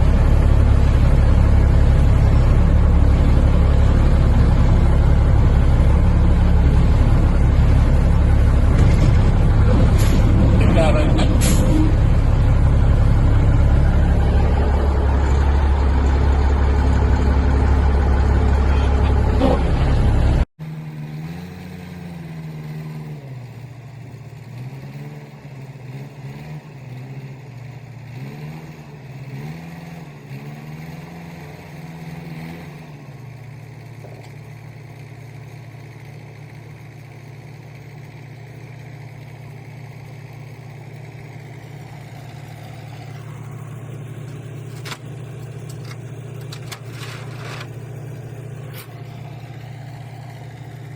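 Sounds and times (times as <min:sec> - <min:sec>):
engine revving and idling: 0:00.0 - 0:50.9
heavy truck engine running: 0:00.0 - 0:50.9.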